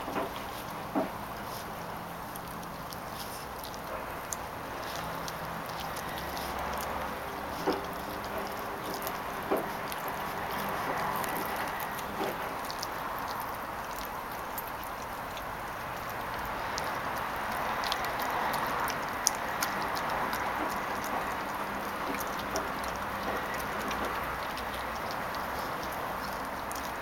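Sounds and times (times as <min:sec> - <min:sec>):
puppy gnawing on bone: 0:00.0 - 0:27.0.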